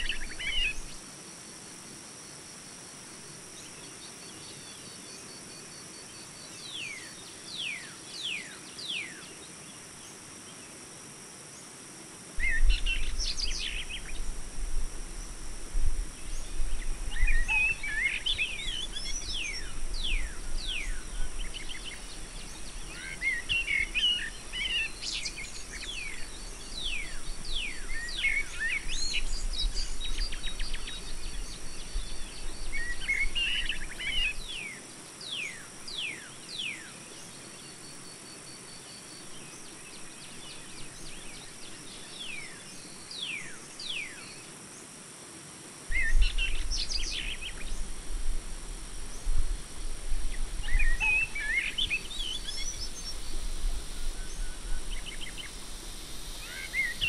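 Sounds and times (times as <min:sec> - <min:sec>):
steady high hiss: 0:00.0 - 0:57.0
songbirds chirping: 0:02.0 - 0:10.9, 0:12.4 - 0:45.0, 0:45.9 - 0:57.0.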